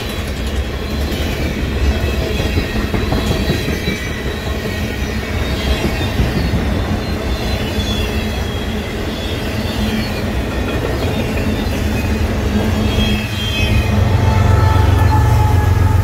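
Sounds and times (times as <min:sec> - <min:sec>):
diesel locomotive engine: 0:00.0 - 0:16.0
train wheels rumbling on rail: 0:00.0 - 0:16.0.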